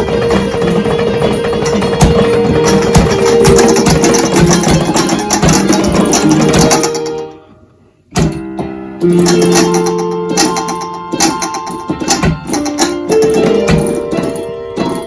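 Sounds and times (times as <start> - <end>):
solenoids clicking on plastic keys: 0.0 - 7.3, 8.2 - 15.0
electronic keyboard music: 0.0 - 7.5, 8.2 - 15.0.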